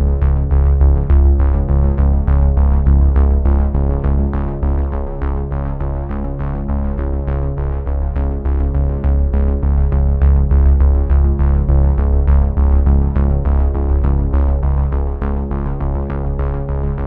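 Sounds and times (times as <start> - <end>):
background music with deep bass: 0.0 - 17.0.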